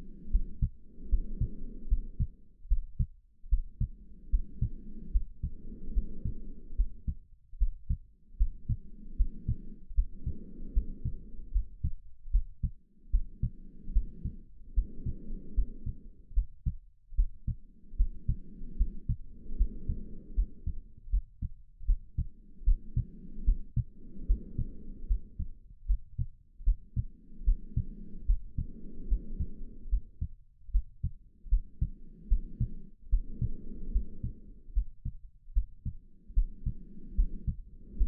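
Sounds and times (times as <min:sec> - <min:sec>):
slow breathing: 0:00.0 - 0:38.0
heartbeat thumps: 0:00.3 - 0:38.0.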